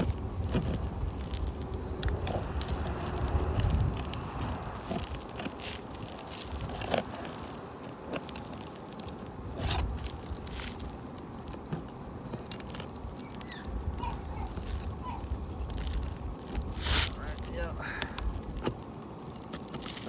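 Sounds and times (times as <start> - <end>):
roof shingles scraping and crackling: 0.0 - 20.0.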